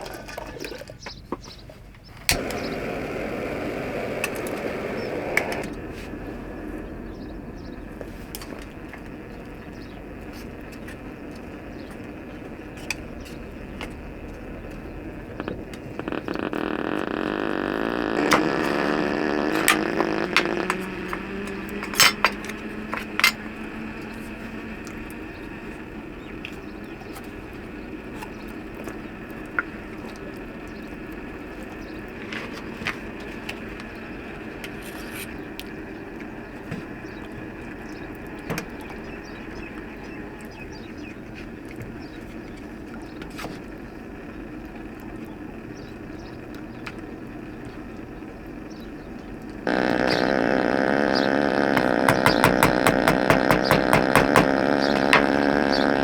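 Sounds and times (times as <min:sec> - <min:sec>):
vehicle engine running: 0:02.1 - 0:56.0.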